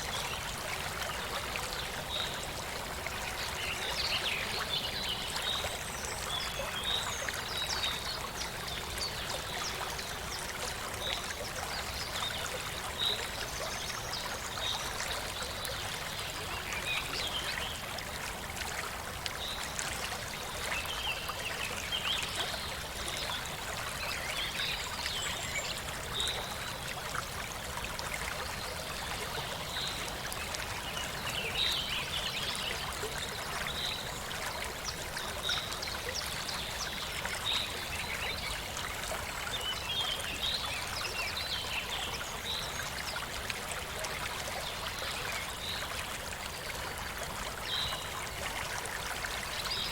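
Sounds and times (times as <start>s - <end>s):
stream flowing over rocks: 0.0s - 49.9s.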